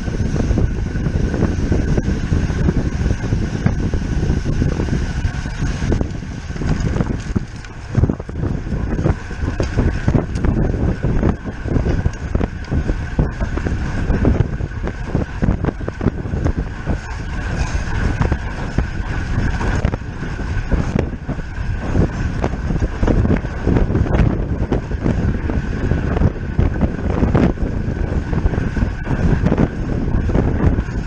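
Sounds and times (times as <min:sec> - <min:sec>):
faint steady whine: 0:00.0 - 0:31.0
wind buffeting microphone: 0:00.0 - 0:31.0.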